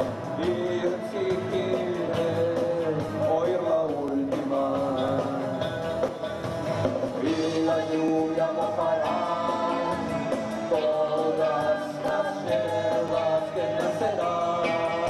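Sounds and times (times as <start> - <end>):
person singing: 0.0 - 6.4, 7.2 - 15.0
steady drum beat: 0.0 - 15.0.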